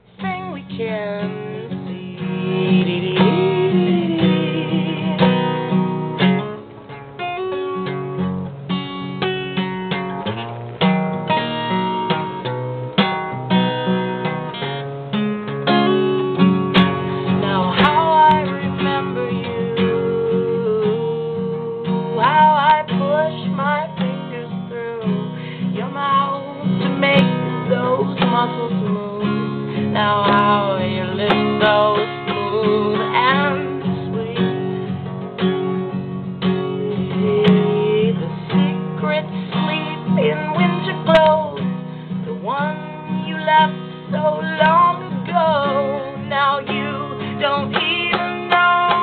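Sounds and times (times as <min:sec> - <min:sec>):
acoustic guitar chords: 0:00.0 - 0:49.0.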